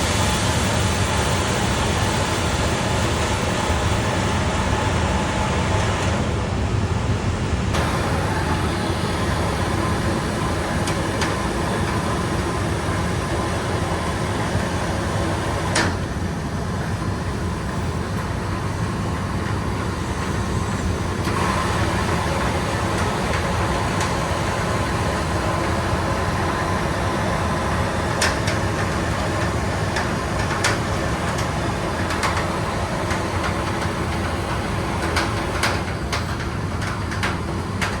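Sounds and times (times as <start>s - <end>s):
boiler-room equipment rumbling: 0.0s - 38.0s.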